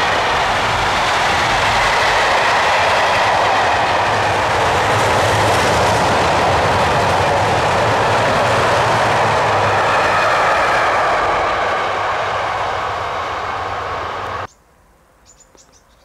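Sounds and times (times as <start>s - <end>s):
train wheels on rail: 0.0s - 14.5s.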